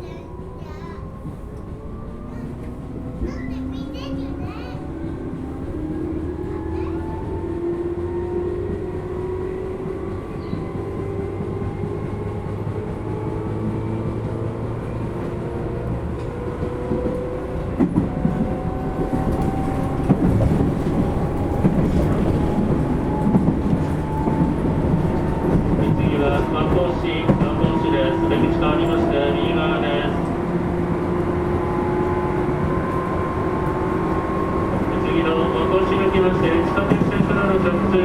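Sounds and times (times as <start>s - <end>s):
train wheel rumble: 0.0s - 38.0s
train traction motors whining: 0.1s - 38.0s.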